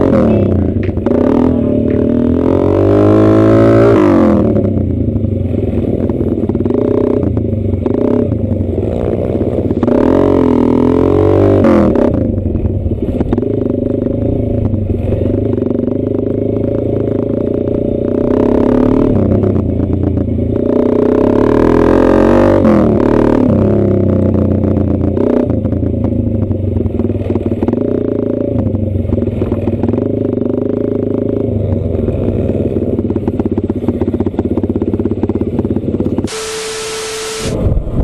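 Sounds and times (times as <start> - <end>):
engine clatter: 0.0 - 36.4
motorcycle engine revving: 0.0 - 38.0.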